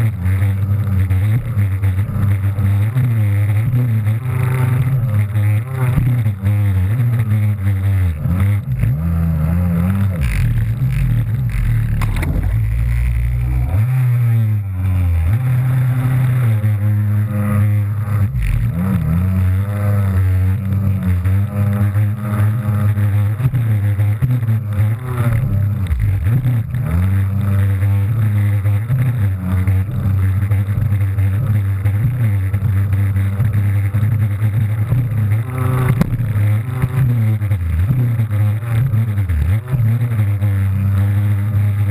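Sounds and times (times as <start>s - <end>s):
jet ski engine revving: 0.0s - 41.9s.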